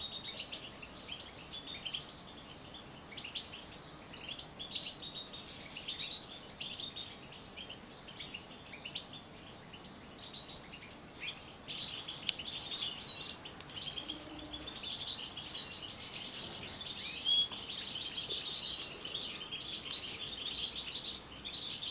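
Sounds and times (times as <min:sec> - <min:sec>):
finches chirping and twittering: 0:00.0 - 0:21.9.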